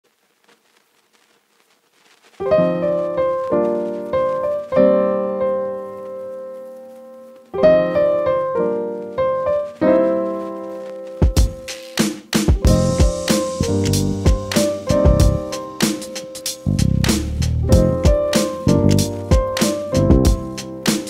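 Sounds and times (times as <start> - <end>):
slow piano chords: 2.4 - 11.8, 12.5 - 21.0.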